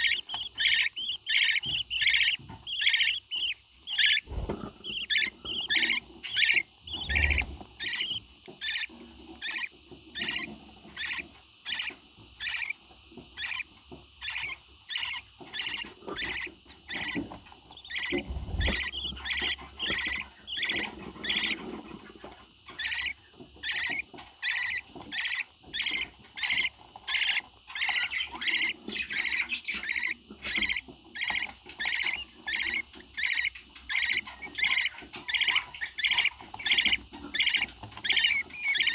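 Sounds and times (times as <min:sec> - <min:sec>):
parrot chirping: 0:00.0 - 0:38.9.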